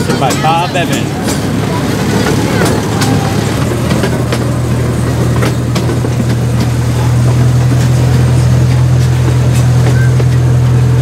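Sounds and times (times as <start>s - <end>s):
ride train engine hum: 0.0s - 11.0s.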